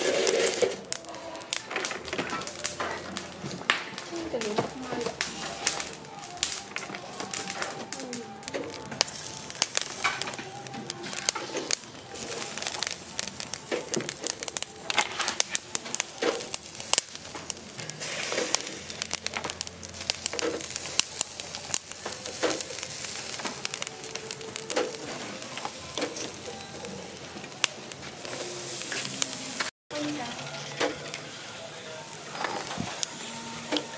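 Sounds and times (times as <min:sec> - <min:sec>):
sharp crackles and pops: 0:00.0 - 0:33.9
snails sizzling on grill: 0:00.0 - 0:33.9.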